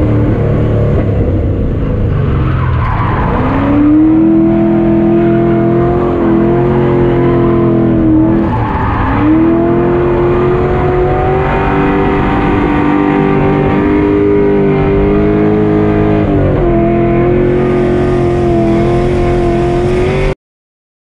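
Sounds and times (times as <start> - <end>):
car engine at high revs: 0.0 - 20.4.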